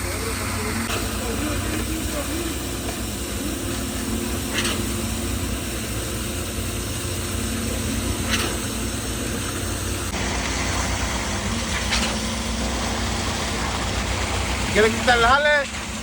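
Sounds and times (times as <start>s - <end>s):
construction machine engine running: 0.0s - 16.0s.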